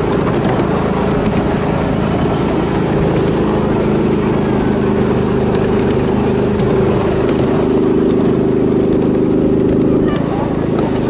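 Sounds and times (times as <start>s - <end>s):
miniature train engine running: 0.0s - 11.0s.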